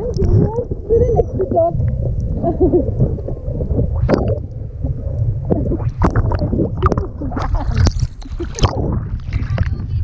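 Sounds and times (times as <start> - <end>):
low rumble: 0.0 - 10.0
water sloshing and gurgling: 0.0 - 10.0
water splashes: 0.0 - 10.0.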